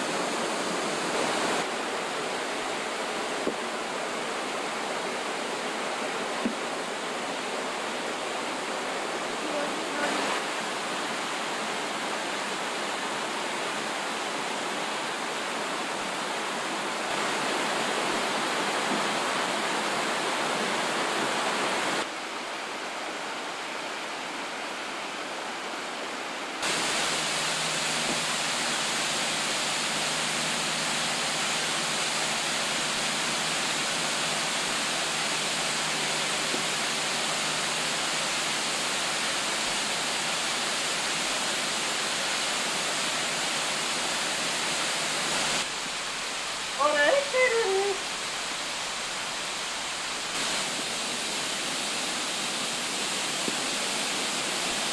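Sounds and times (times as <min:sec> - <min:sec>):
rushing stream and waterfalls: 0:00.0 - 0:54.9.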